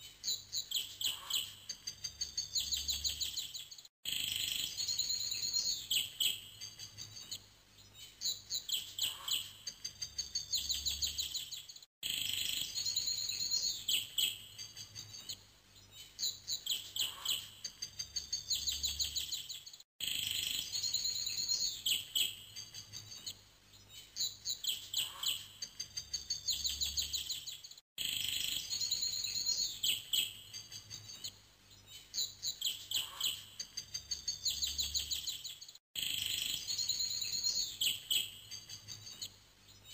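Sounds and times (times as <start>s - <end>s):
birdsong chirps and trills: 0.0s - 39.9s.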